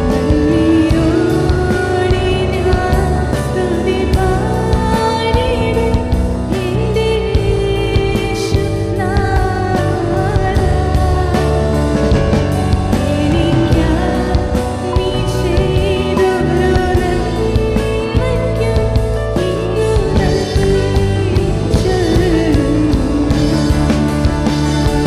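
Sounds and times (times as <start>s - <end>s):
woman singing: 0.0s - 25.0s.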